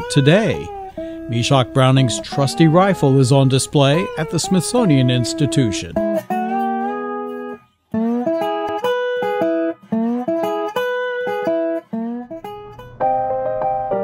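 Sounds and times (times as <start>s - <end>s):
plucked guitar tune: 0.0s - 14.0s.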